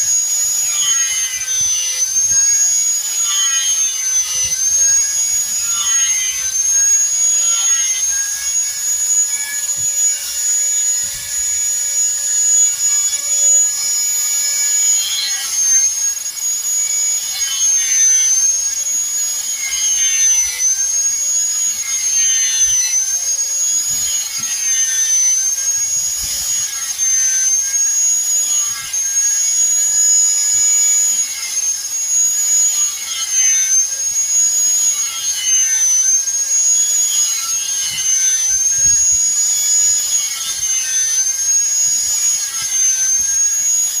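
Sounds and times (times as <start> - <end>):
electric power tool whining: 0.0 - 44.0.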